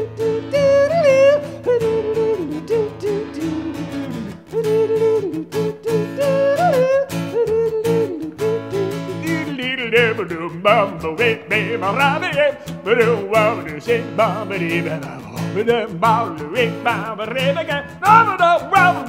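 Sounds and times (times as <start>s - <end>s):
acoustic guitar strumming: 0.0s - 19.0s
man singing wordlessly: 0.0s - 19.0s.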